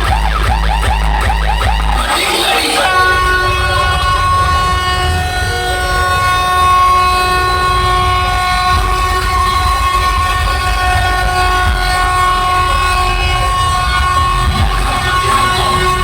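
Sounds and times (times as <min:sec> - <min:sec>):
heavy bass rumbling: 0:00.0 - 0:16.0
train horn tone over speakers: 0:02.2 - 0:16.0.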